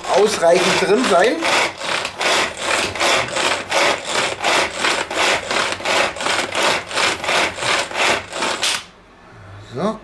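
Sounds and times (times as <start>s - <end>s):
food chopper whirring: 0.0s - 8.9s.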